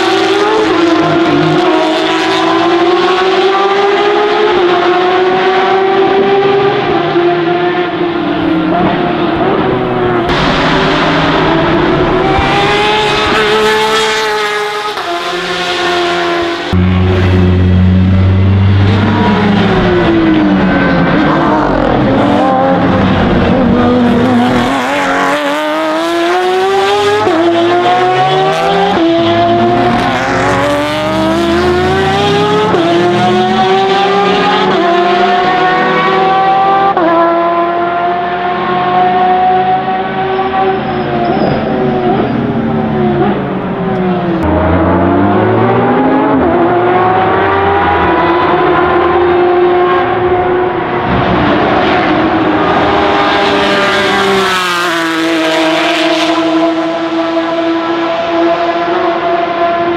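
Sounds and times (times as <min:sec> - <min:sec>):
race cars passing at speed: 0:00.0 - 0:59.9.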